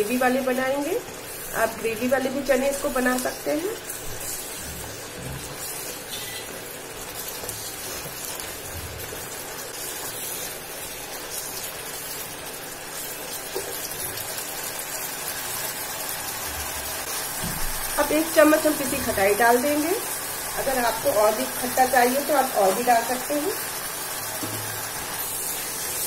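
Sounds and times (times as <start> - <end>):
food sizzling and bubbling: 0.0 - 26.0.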